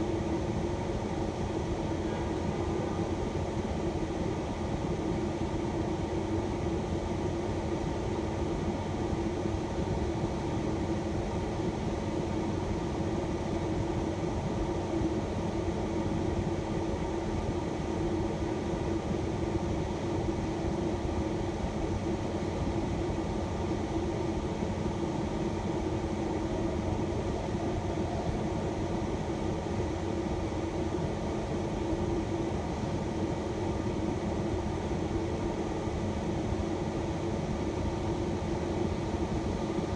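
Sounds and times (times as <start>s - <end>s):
air-conditioning fan drone: 0.0s - 39.9s.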